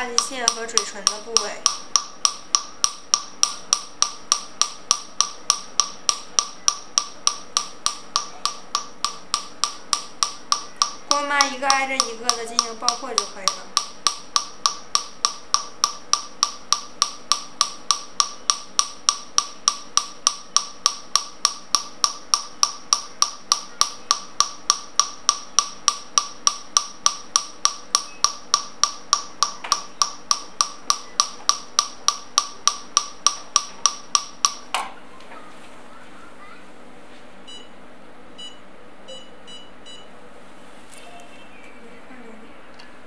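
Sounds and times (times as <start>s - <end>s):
laser handpiece snapping pulses: 0.0s - 34.7s.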